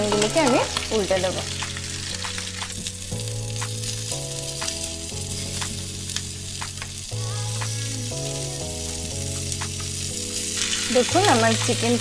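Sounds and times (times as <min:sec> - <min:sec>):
chicken sizzling in frying pan: 0:00.0 - 0:12.0
slow background music: 0:00.0 - 0:12.0.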